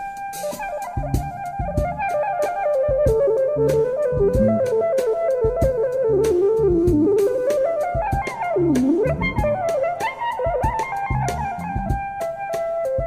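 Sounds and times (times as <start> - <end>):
instrumental music with drums: 0.0 - 13.0.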